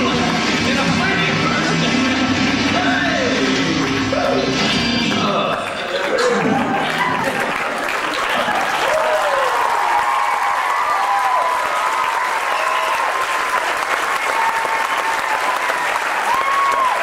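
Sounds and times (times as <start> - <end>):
audience applauding: 0.0 - 17.0
people cheering: 0.0 - 17.0.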